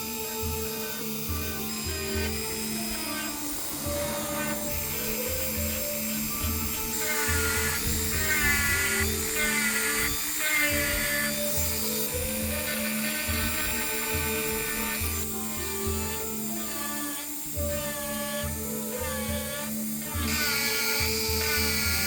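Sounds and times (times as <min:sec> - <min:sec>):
music with steady beat: 0:00.0 - 0:22.0
power tool whining: 0:00.0 - 0:22.0.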